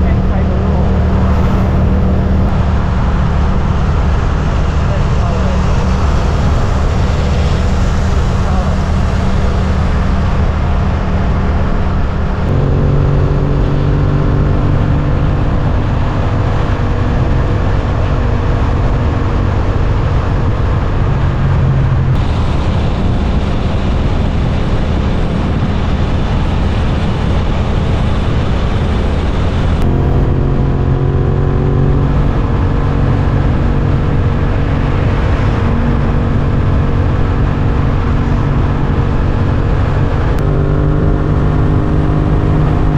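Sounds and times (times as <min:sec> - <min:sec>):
motorcycle engine running: 0:00.0 - 0:42.9
wind rush on microphone: 0:00.0 - 0:42.9.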